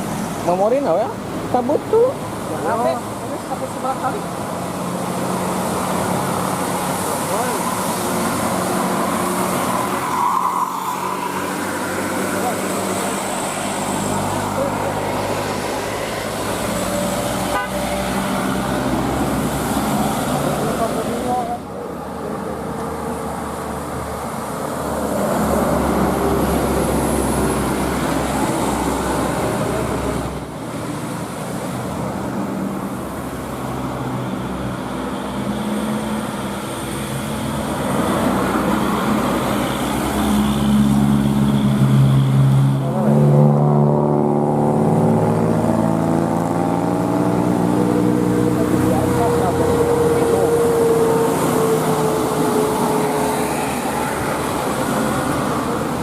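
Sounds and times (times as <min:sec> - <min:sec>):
road traffic noise: 0:00.0 - 0:56.0.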